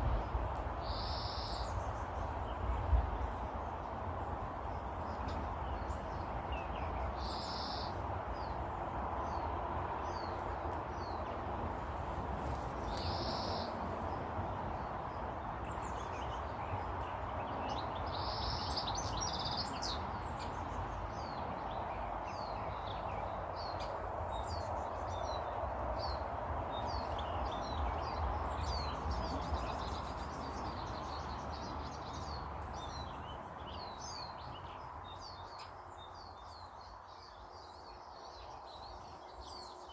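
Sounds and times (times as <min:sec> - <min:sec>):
small birds chirping: 0:00.2 - 0:11.4, 0:12.4 - 0:39.9.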